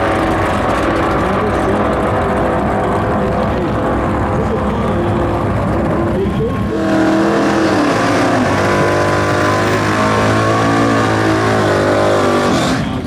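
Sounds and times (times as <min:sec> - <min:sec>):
muscle car engines running: 0:00.0 - 0:13.0.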